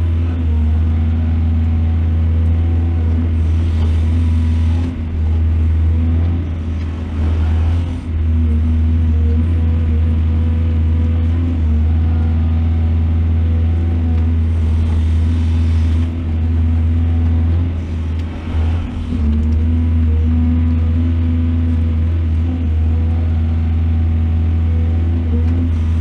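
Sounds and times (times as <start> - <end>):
engine whine: 0.0 - 26.0
excavator diesel engine running: 0.0 - 26.0.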